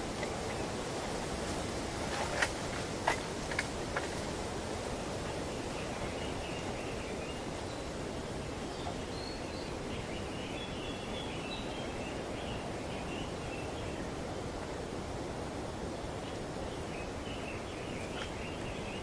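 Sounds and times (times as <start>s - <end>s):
wind rustling foliage: 0.0s - 19.0s.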